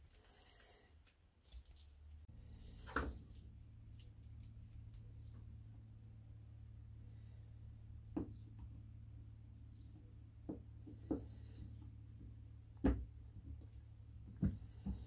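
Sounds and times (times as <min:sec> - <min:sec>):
steady low hum: 0:02.0 - 0:15.0.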